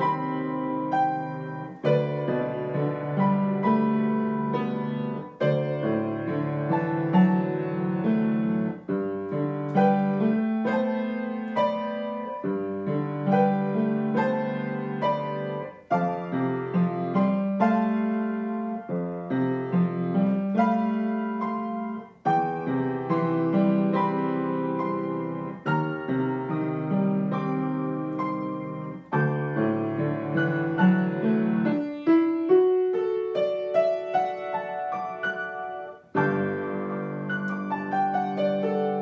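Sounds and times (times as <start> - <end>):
solo piano: 0.0 - 39.0.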